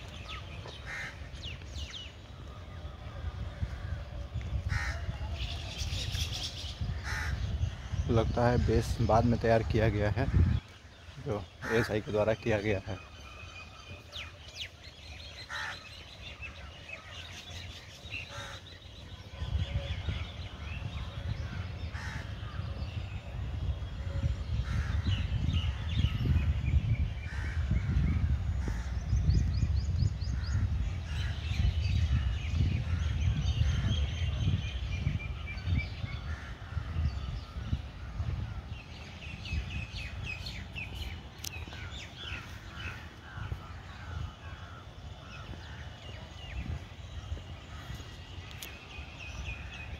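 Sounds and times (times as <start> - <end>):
birds calling and chirping: 0.0 - 49.9.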